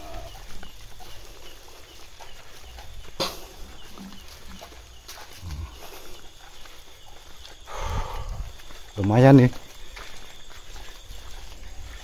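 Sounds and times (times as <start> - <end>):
footsteps on concrete: 0.0 - 12.0.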